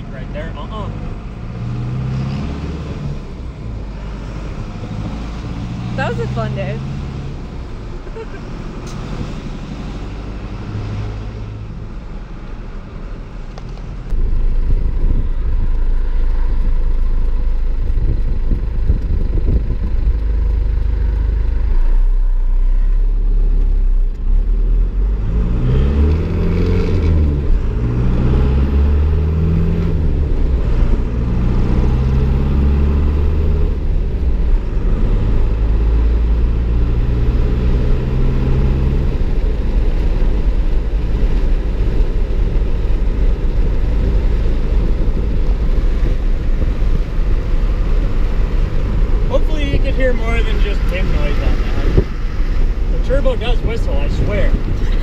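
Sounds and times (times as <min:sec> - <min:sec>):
diesel truck engine shifting gears: 0:00.0 - 0:55.0.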